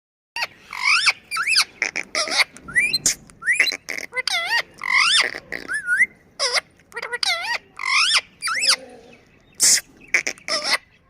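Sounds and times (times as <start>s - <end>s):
parakeet whistles and squawks: 0.4s - 8.8s, 9.5s - 11.0s.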